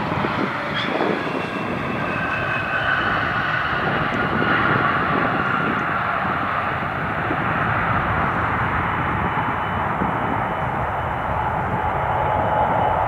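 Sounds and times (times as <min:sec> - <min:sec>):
jet engines rushing and whining: 0:00.0 - 0:13.0.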